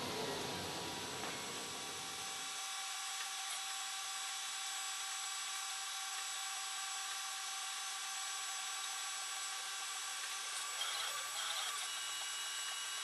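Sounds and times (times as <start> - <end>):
printer mechanical whir: 0.0 - 13.0.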